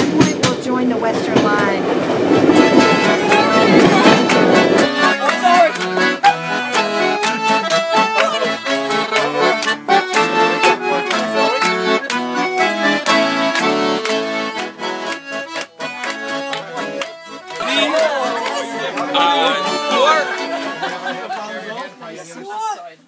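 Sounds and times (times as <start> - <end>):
acoustic guitar strumming: 0.0 - 22.7
accordion folk tune: 0.0 - 23.0.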